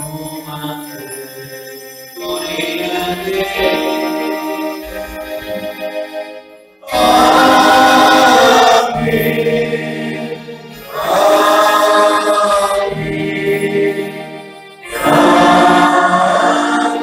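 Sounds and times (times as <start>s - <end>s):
church choir singing: 0.0s - 17.0s.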